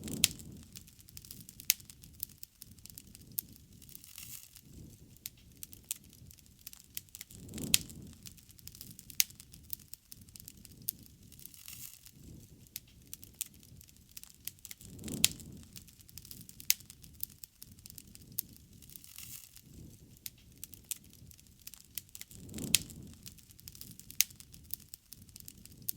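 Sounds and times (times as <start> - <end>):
low rushing of flame: 0.0 - 25.9
wood fire crackling and popping: 0.0 - 25.9.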